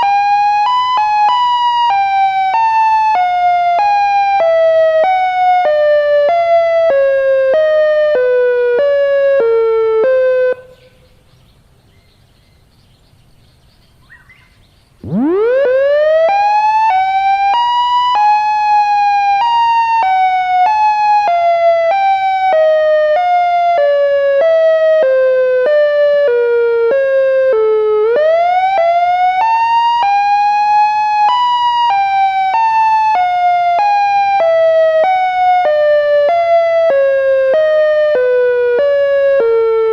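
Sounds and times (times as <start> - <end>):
electronic siren wailing: 0.0 - 11.0, 15.0 - 39.9.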